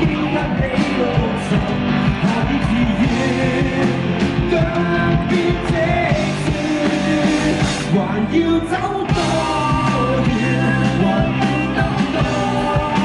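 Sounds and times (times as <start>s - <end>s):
drums beating: 0.0s - 13.0s
live band playing pop-rock: 0.0s - 13.0s
person singing: 0.0s - 13.0s.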